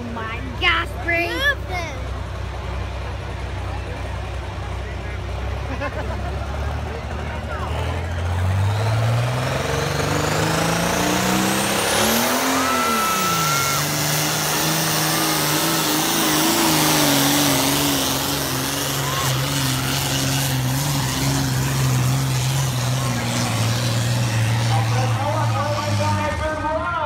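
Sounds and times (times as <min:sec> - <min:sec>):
tractor engine running hard: 0:00.0 - 0:27.0.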